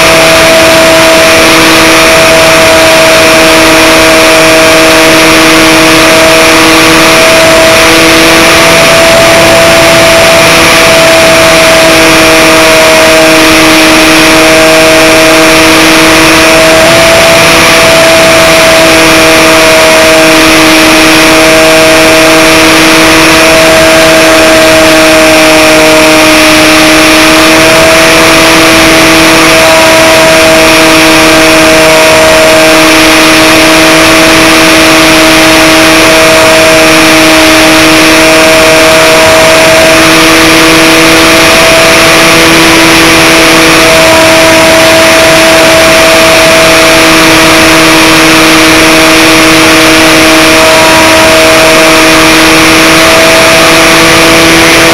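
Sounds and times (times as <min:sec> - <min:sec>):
electric motor and propeller drone: 0:00.0 - 0:54.9.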